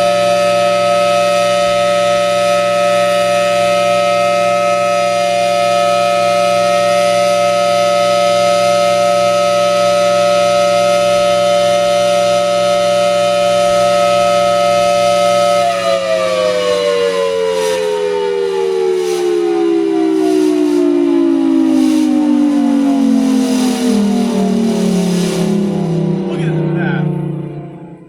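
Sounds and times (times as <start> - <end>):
outdoor warning siren: 0.0 - 28.0.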